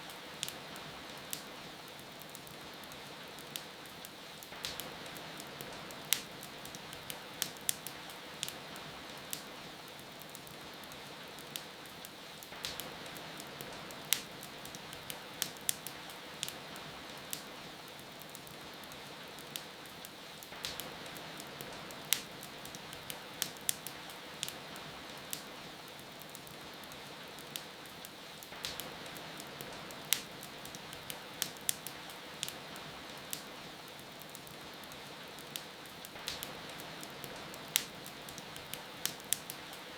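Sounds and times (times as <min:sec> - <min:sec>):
steady rain: 0:00.0 - 0:39.9
wood fire crackling and popping: 0:00.0 - 0:39.9.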